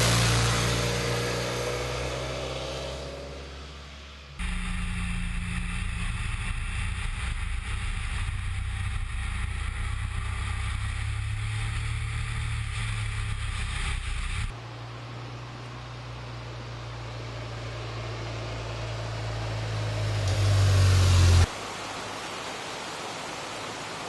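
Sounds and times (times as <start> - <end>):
motorcycle engine: 0.0 - 14.8, 16.1 - 21.5.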